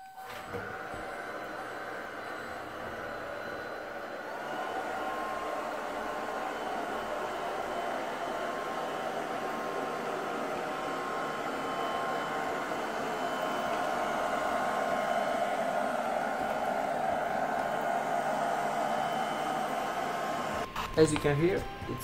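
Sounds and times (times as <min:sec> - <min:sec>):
robot vacuum whirring: 0:00.0 - 0:22.0.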